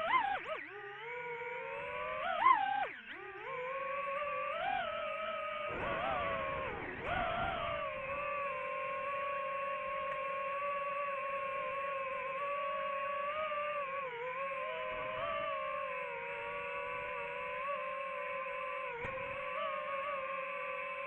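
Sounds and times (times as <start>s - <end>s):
drone propellers humming: 0.0s - 21.0s.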